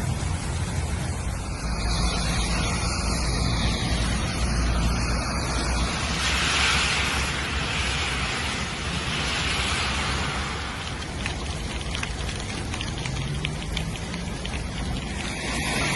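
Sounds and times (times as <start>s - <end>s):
low rumble of traffic: 0.0s - 15.9s
rain and tyres hissing on wet road: 0.0s - 15.9s.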